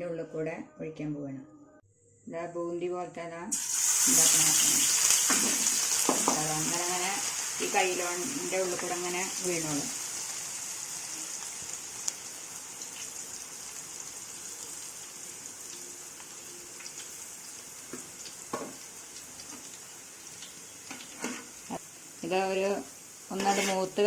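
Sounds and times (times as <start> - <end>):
batter sizzling in hot oil: 3.5 - 24.0.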